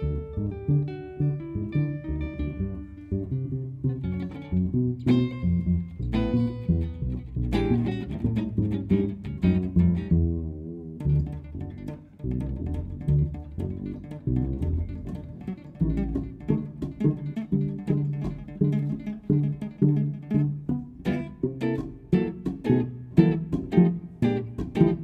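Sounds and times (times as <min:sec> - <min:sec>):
double bass: 0:00.0 - 0:25.0
electric guitar playing jazz: 0:00.0 - 0:25.0.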